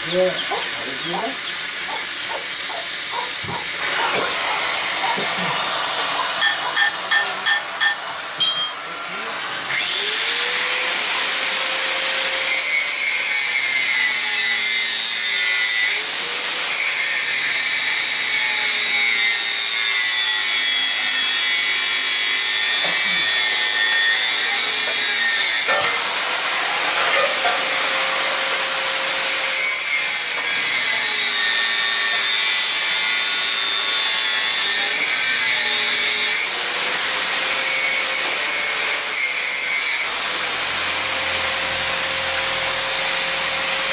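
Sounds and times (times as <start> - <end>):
cutting torch hissing: 0.0 - 18.4, 20.4 - 43.9.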